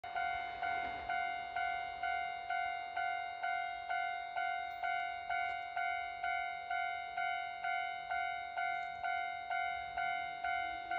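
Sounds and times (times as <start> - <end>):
level crossing bell clanging: 0.0 - 10.9.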